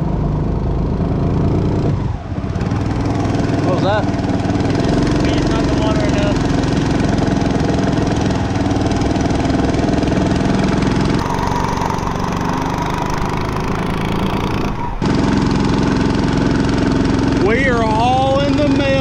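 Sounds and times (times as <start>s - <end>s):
boat motor running: 2.4s - 19.0s.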